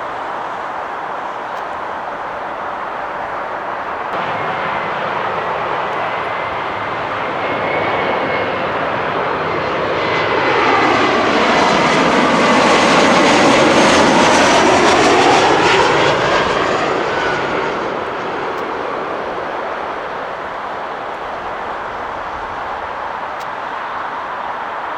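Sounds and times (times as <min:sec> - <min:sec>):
jet airliner engine roar: 0:00.0 - 0:24.9.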